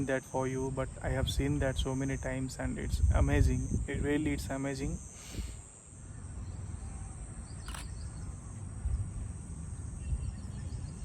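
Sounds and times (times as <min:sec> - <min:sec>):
crickets trilling: 0:00.0 - 0:11.0
low rumble of wind: 0:00.0 - 0:11.0.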